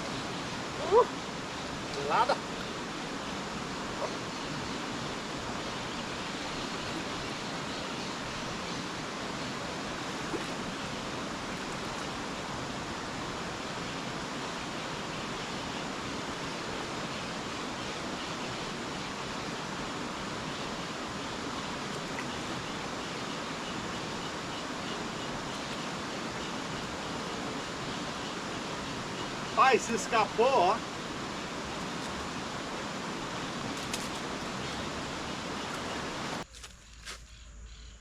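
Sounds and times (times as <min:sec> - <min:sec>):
river water rushing: 0:00.0 - 0:36.4.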